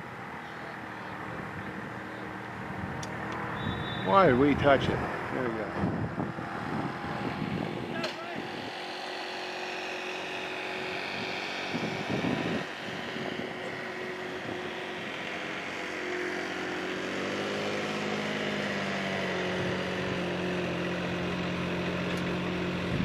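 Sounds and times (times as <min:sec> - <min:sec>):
engine droning: 0:00.0 - 0:23.0.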